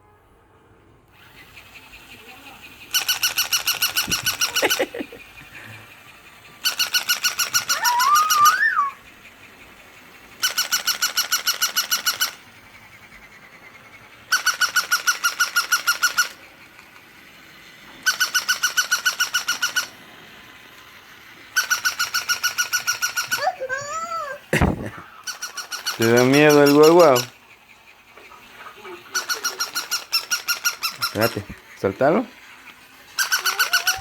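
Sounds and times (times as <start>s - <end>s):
toy dog squeaky yips: 1.2s - 5.4s, 6.2s - 16.9s, 18.0s - 20.0s, 21.5s - 34.0s.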